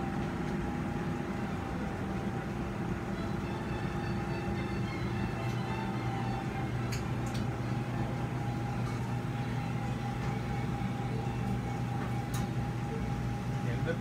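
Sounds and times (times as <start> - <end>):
constant mid-pitched tone: 0.0 - 14.0
equipment hum: 0.0 - 14.0.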